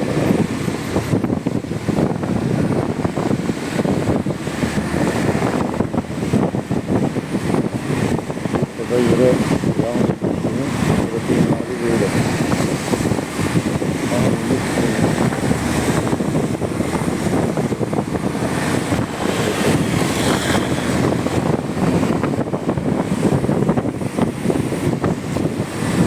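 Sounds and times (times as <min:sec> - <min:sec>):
vehicle and road noise: 0:00.0 - 0:26.0
wind rushing on microphone: 0:00.0 - 0:26.0.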